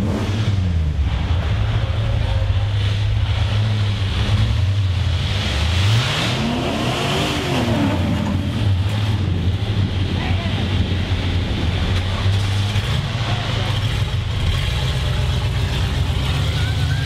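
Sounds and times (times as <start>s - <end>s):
buggy engine running and revving: 0.0s - 17.0s.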